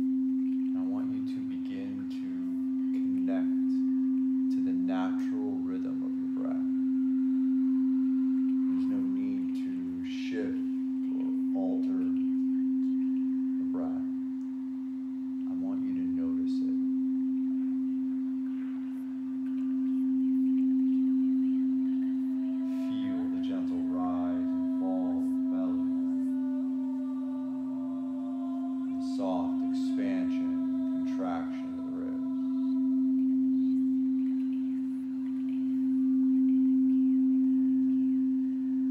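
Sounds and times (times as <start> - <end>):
singing bowl low tone: 0.0 - 38.9.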